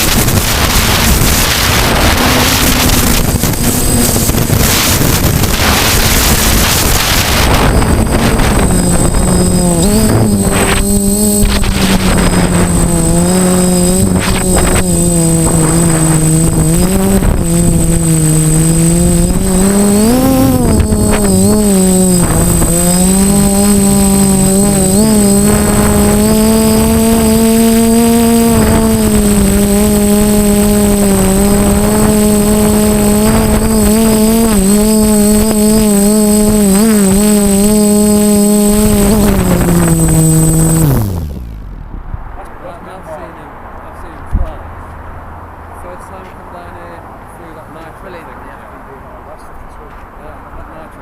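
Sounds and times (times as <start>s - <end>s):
wind buffeting microphone: 0.0s - 43.4s
drone propellers humming: 0.0s - 44.6s.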